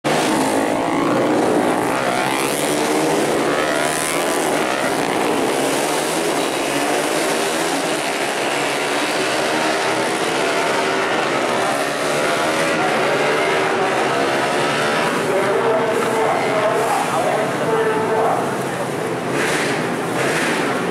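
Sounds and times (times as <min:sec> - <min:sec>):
racing motorcycles at high revs: 0:00.0 - 0:20.9.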